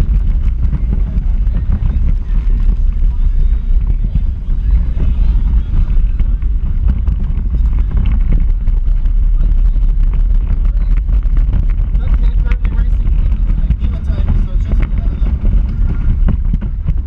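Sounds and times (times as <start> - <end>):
low rumble of electric car driving: 0.0 - 17.0
wind buffeting: 0.0 - 17.0.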